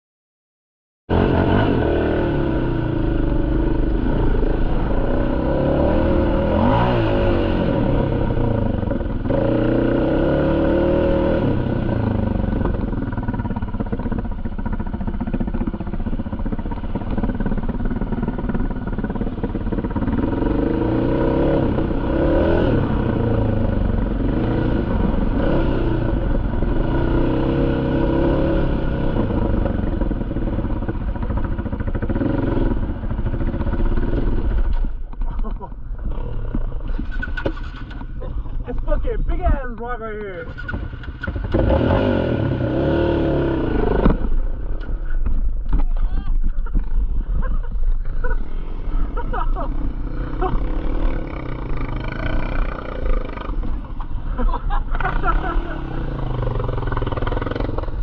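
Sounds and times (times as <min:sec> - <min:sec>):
atv engine revving: 0:01.1 - 0:58.0.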